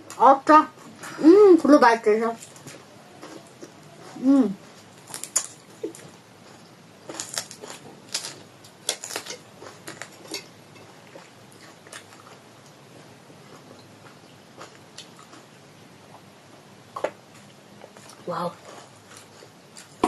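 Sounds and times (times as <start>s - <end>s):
close-up chewing: 2.4s - 16.3s, 17.0s - 20.0s.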